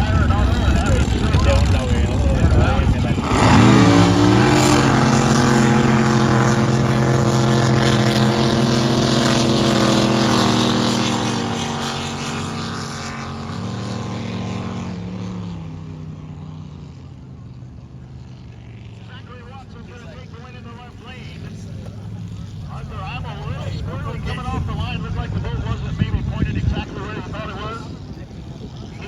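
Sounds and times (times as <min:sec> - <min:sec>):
drag boat engines at full throttle: 0:00.0 - 0:29.0.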